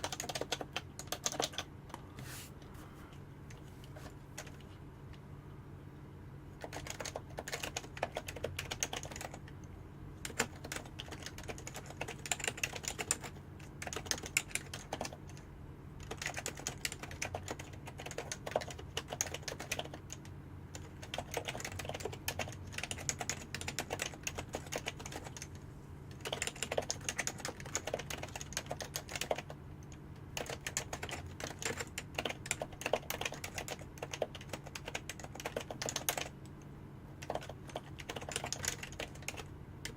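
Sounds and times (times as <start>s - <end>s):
fast keyboard typing: 0.0s - 1.7s, 3.5s - 4.7s, 6.5s - 9.5s, 10.2s - 36.6s, 37.2s - 39.9s
faint low hum: 0.0s - 39.9s.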